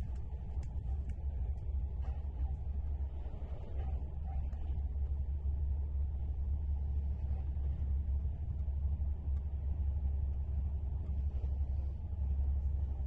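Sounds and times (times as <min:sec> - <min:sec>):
train rumbling along track: 0:00.0 - 0:13.0.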